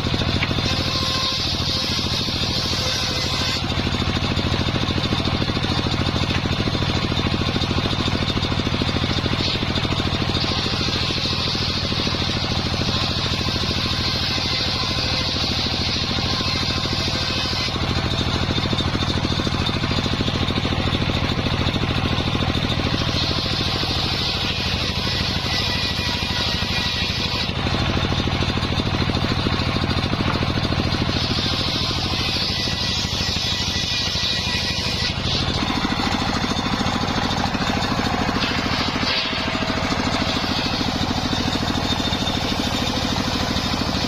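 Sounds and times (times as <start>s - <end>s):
circular saw cutting wood: 0.0s - 44.0s.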